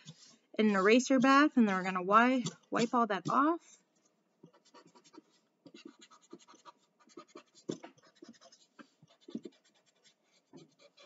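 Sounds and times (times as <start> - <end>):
eraser rubbing over paper: 0.0 - 3.8, 4.5 - 11.0.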